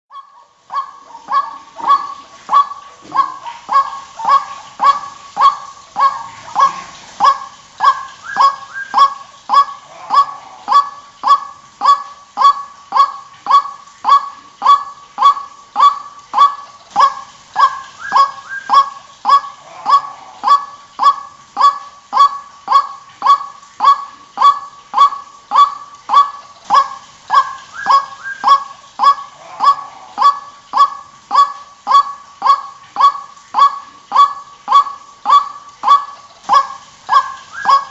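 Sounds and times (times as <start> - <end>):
higher overlapping bird notes: 0.1 - 37.9
waterhen calling: 0.1 - 37.9.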